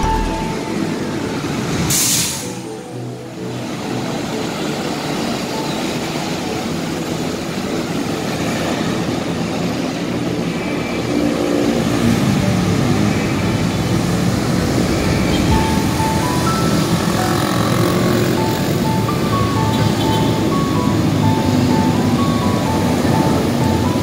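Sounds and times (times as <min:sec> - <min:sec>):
road noise of passing vehicles: 0:00.0 - 0:24.0.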